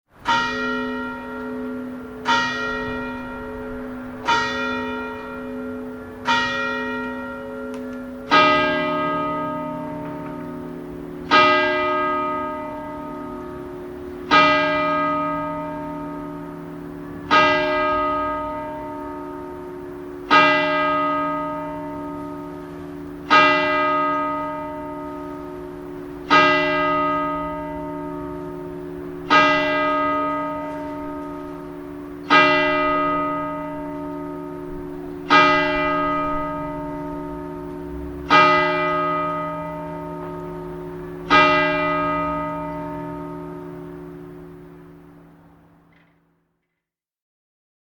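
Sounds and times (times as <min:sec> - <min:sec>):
deeper bell ringing: 0:00.2 - 0:45.9.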